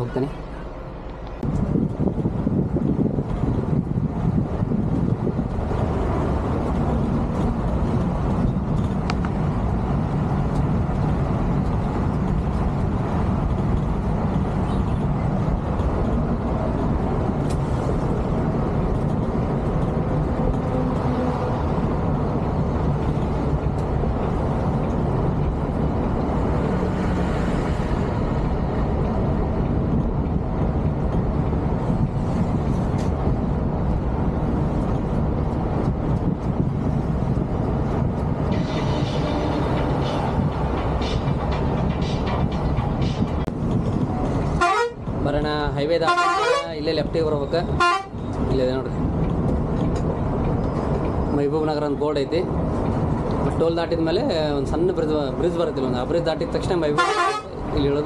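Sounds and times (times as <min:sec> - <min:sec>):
tyre and road noise: 0:00.0 - 0:58.0.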